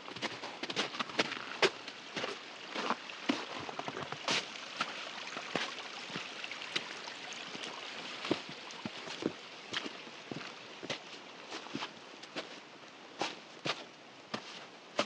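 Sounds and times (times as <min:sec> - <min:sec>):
boot footsteps on slushy trail: 0:00.0 - 0:15.0.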